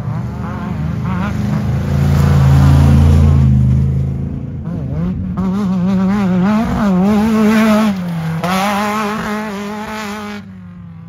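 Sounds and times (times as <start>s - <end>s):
truck engine at high revs: 0.0s - 10.5s.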